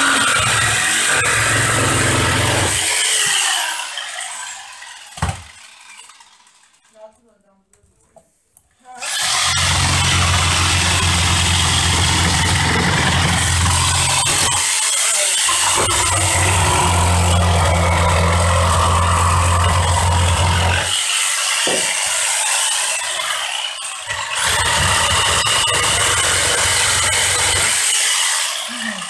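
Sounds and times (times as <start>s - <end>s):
jigsaw cutting wood: 0.0s - 7.0s, 9.0s - 29.0s.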